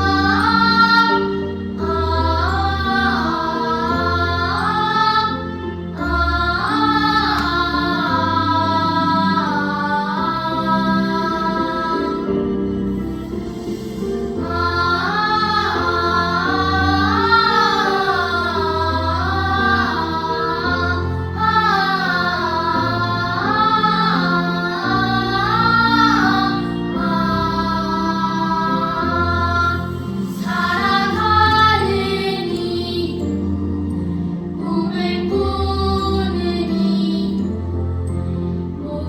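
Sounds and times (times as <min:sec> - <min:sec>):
children's choir singing: 0:00.0 - 0:39.0
sustained instrumental accompaniment: 0:00.0 - 0:39.0.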